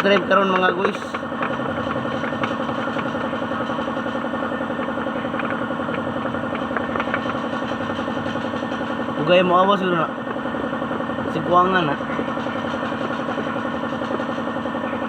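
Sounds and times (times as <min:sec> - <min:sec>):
truck engine running steadily: 0:00.0 - 0:15.0.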